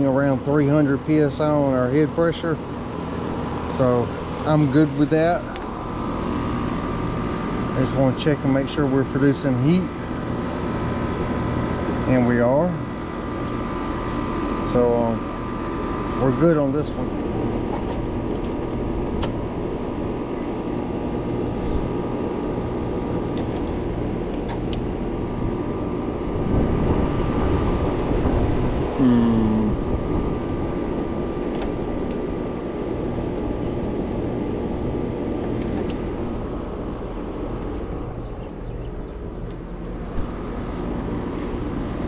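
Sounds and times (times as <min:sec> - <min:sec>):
heat pump unit humming: 0:00.0 - 0:42.0.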